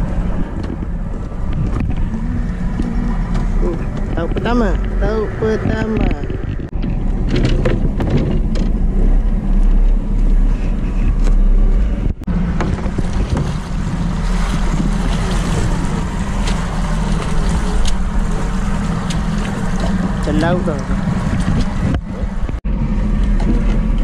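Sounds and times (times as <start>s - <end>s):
boat motor running: 0.0s - 24.0s
wind noise on microphone: 0.0s - 24.0s.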